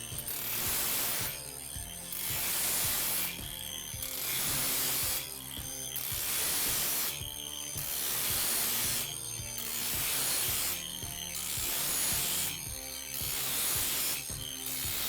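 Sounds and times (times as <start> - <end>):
angle grinder grinding metal: 0.0 - 15.0.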